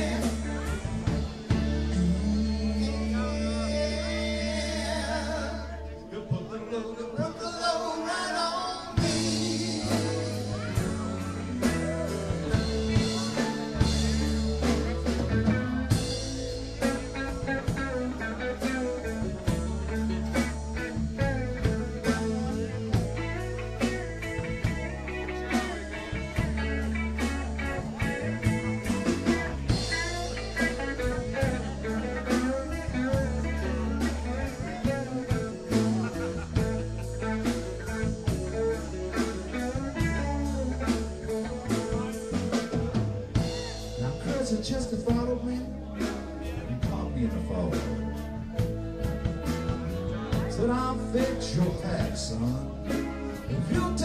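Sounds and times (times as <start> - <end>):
blues-rock band playing: 0.0 - 54.0
guitar: 0.0 - 54.0.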